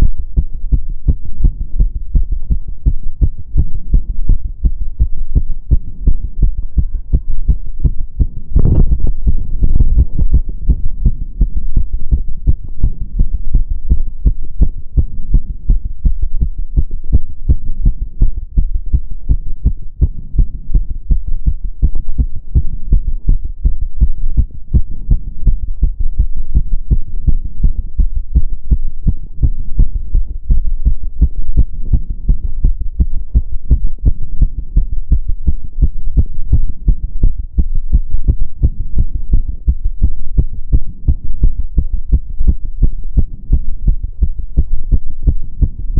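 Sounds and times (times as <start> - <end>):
heart beating fast: 0.0 - 45.9.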